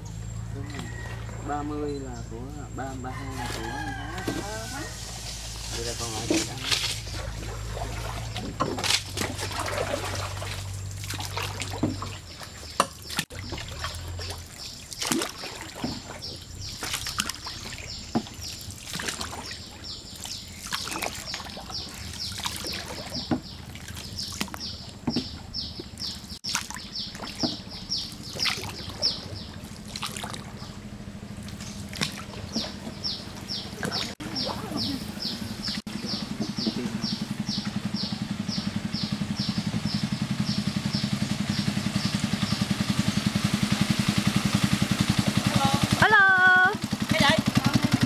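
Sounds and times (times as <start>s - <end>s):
oar splashing: 0.0s - 48.0s
water sloshing and trickling: 0.0s - 48.0s.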